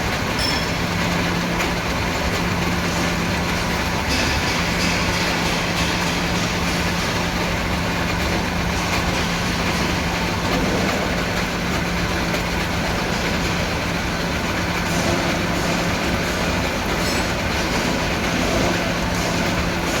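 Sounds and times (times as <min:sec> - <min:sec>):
lathe running: 0:00.0 - 0:20.0.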